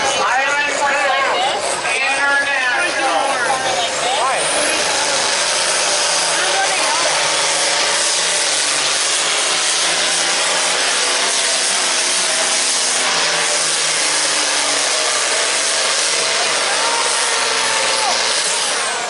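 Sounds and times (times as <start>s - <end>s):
diesel tractor engine roaring: 0.0s - 19.0s.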